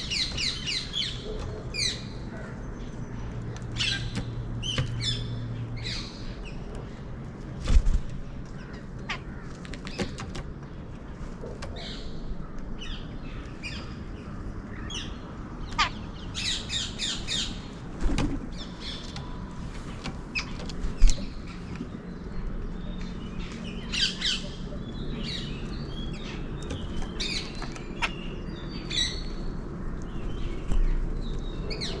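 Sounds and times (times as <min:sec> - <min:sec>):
wild birds chirping and squawking: 0:00.0 - 0:32.0.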